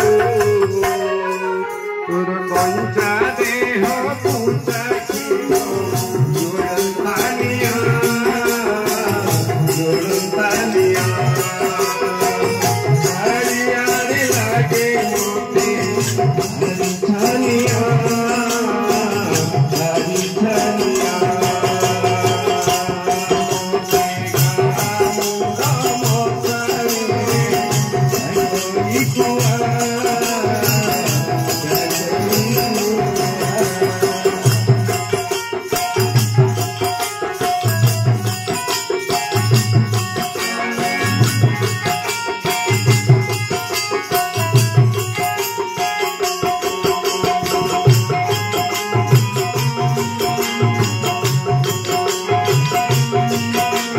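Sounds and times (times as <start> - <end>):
electronic keyboard melody: 0.0 - 53.9
small metal percussion clashing: 0.0 - 53.9
barrel drum rhythm: 2.4 - 53.9.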